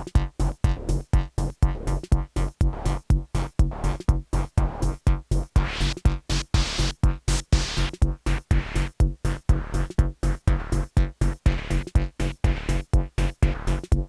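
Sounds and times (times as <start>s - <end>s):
deep bass: 0.0s - 14.0s
pumping techno beat: 0.0s - 14.0s.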